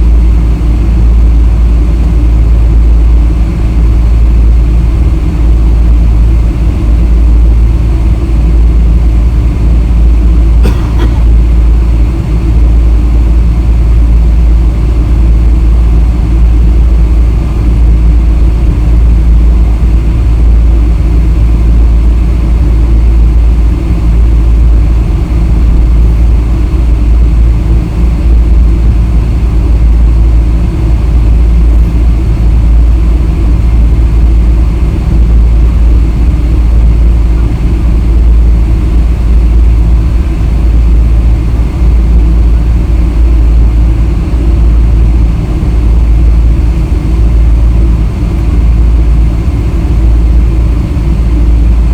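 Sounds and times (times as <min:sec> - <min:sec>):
airliner engines low rumble: 0:00.0 - 0:51.9.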